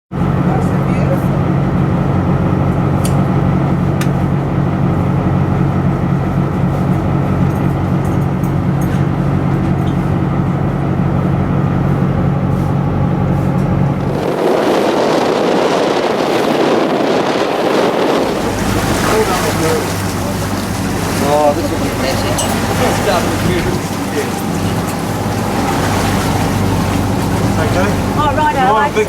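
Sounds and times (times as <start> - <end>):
boat engine running: 0.1 - 29.0
rush of wind and water: 0.2 - 29.0.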